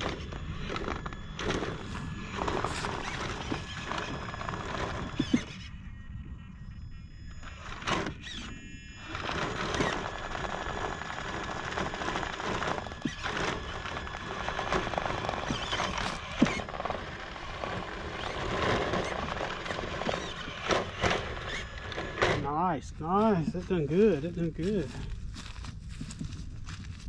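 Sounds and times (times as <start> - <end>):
tires scrabbling on wood: 0.0 - 5.6, 9.1 - 27.0
rc car motor whining: 0.0 - 26.2.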